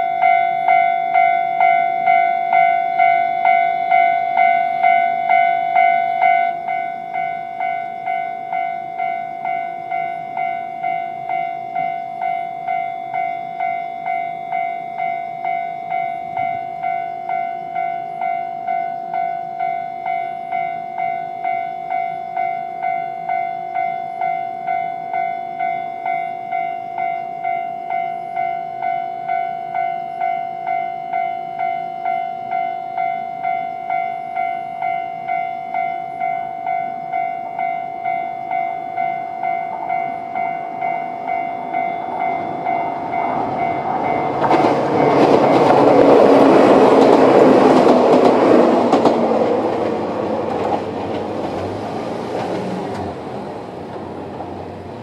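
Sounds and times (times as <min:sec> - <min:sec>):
level crossing alarm bell: 0:00.0 - 0:54.8
electric train passing: 0:00.0 - 0:55.0.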